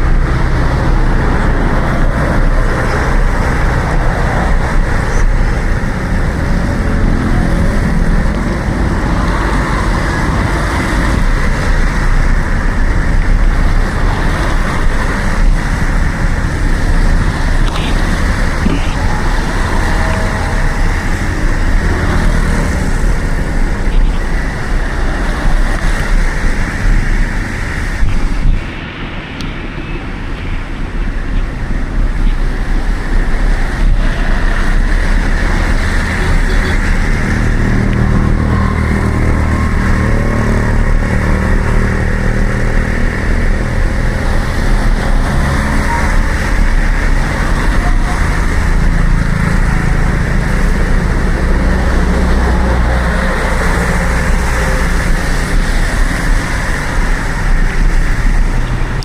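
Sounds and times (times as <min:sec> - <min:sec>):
road noise: 0:00.0 - 0:59.0
wind rumble: 0:00.0 - 0:59.0.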